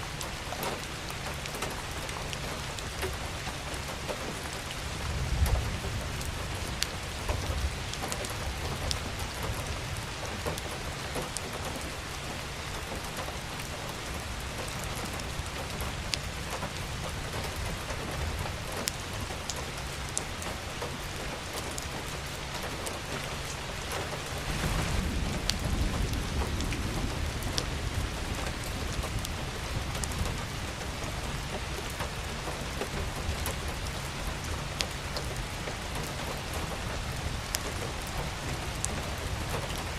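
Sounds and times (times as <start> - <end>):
steady rain: 0.0 - 39.9
raindrops ticking: 0.1 - 39.9.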